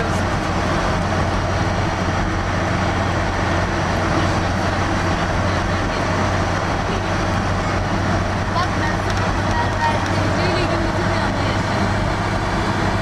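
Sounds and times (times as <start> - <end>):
car driving through tunnel: 0.0 - 13.0.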